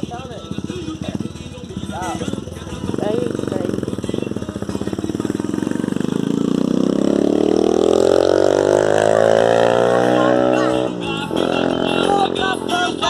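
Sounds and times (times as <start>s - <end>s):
vehicle engine accelerating: 0.6s - 13.0s.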